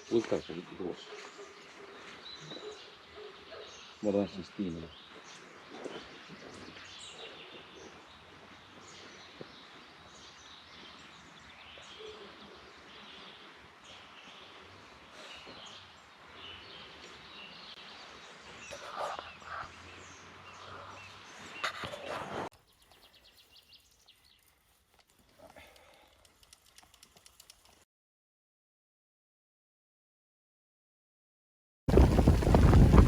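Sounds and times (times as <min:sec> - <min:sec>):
small birds chirping: 0:00.0 - 0:27.8.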